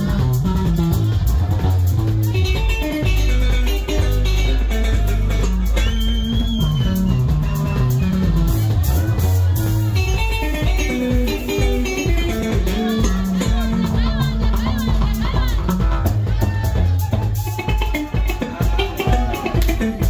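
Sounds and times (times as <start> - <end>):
drums: 0.0 - 20.0
electric bass guitar: 0.0 - 20.0
electric lead guitar: 0.0 - 20.0.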